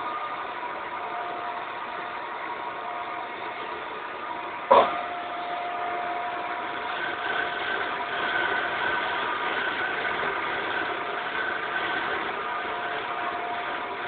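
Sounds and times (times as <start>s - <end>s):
wood lathe humming and whining: 0.0s - 14.0s.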